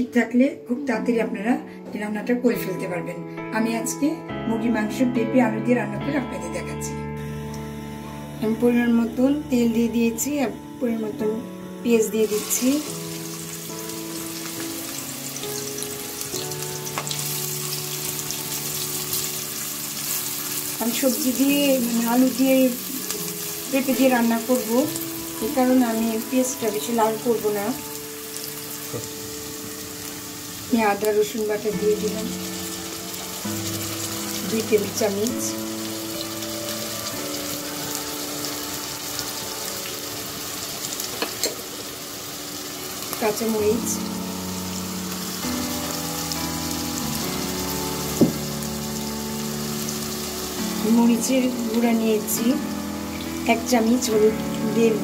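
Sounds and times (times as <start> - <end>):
onions sizzling in hot oil: 7.3 - 55.0.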